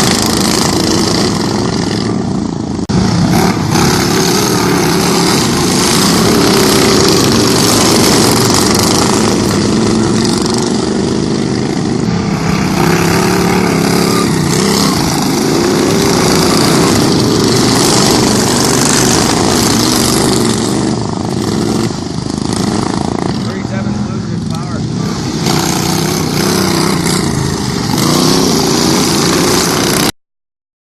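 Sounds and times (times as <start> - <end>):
lawn mower engines revving: 0.0 - 30.1.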